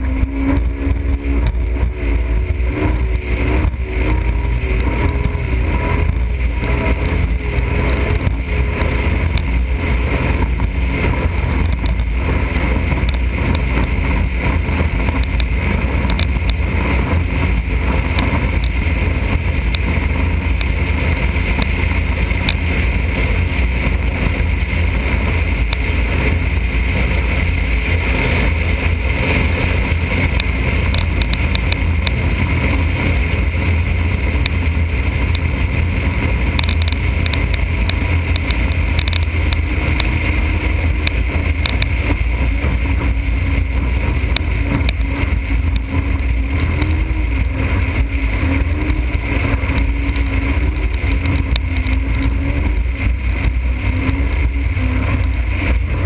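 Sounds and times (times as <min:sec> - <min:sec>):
faint wavering engine tone: 0:00.0 - 0:56.0
motorboat engine drone: 0:00.0 - 0:56.0
wind and water noise: 0:00.0 - 0:56.0.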